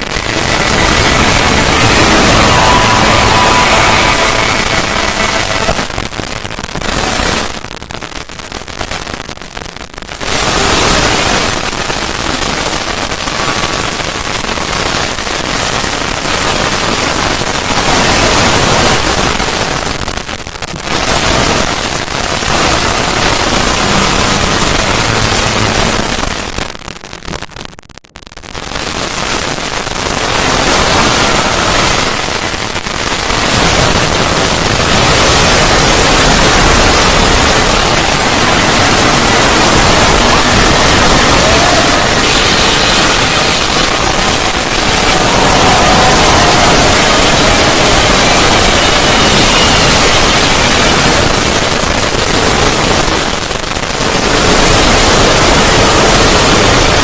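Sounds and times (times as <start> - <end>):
harsh loud static noise: 0.0 - 57.0.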